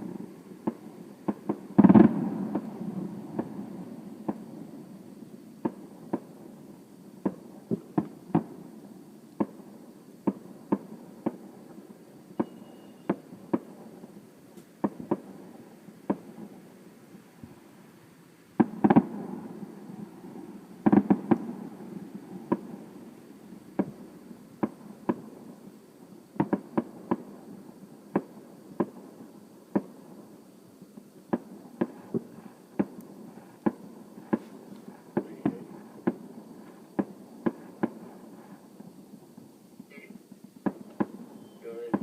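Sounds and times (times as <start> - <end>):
fireworks bangs: 0.0 - 17.7, 18.5 - 42.0.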